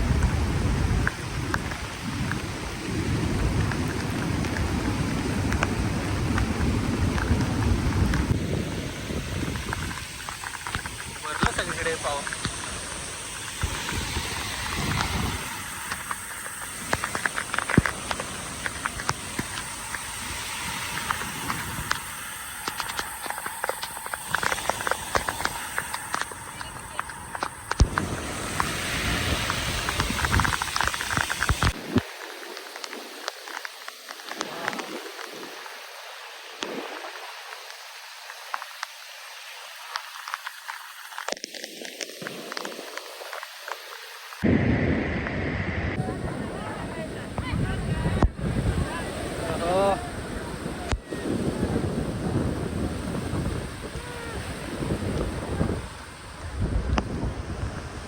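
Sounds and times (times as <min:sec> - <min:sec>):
heavy rain falling: 0:00.0 - 0:58.0
raindrops hitting near microphone: 0:00.0 - 0:58.0.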